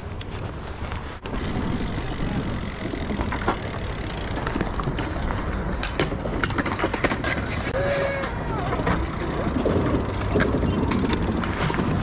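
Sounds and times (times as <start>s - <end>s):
bike clicks and knocks: 0.0s - 12.0s
bike tyres rolling on concrete: 0.0s - 12.0s.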